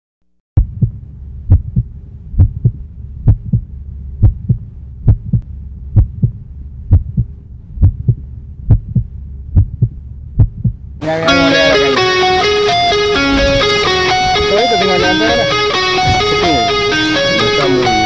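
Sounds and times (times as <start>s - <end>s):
heartbeat deep thumps: 0.6s - 11.0s, 12.8s - 17.4s
steady low hum: 0.6s - 18.0s.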